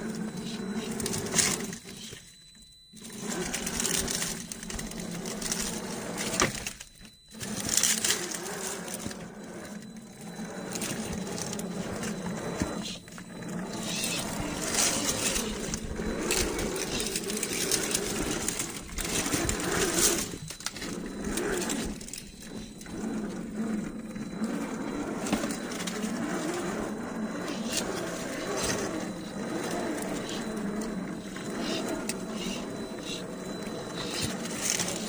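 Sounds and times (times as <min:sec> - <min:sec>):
small electric motor whirring: 0:00.0 - 0:35.0
tyres crunching over rough ground: 0:00.0 - 0:35.0.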